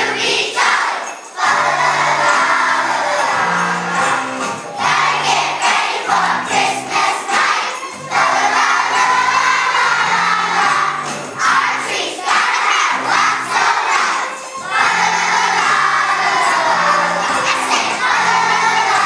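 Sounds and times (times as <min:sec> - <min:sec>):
children singing: 0:00.0 - 0:19.0
instrumental accompaniment: 0:00.0 - 0:19.0.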